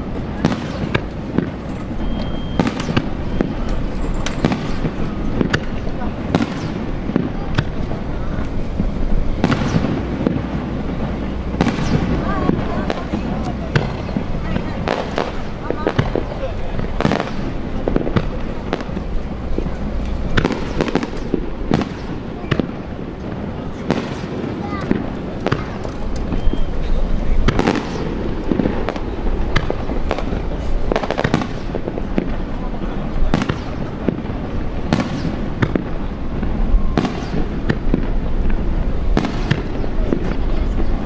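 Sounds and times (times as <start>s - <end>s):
fireworks bangs: 0.0s - 41.0s
low continuous rumble: 0.0s - 41.0s.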